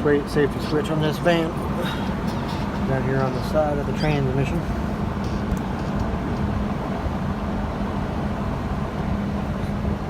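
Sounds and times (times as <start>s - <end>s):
low mechanical hum and rumble: 0.0s - 10.0s.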